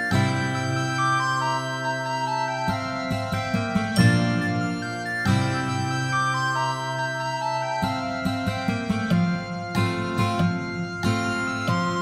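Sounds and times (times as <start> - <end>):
keyboard chords with melody: 0.0 - 12.0.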